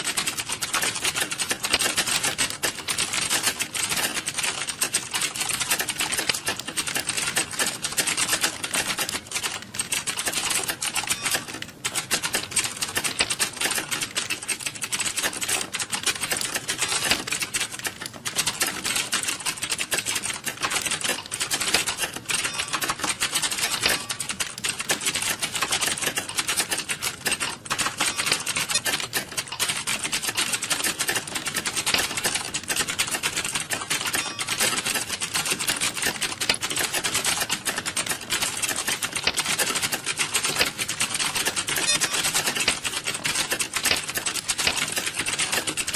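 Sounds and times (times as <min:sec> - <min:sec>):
computer keyboard typing: 0:00.0 - 0:45.9.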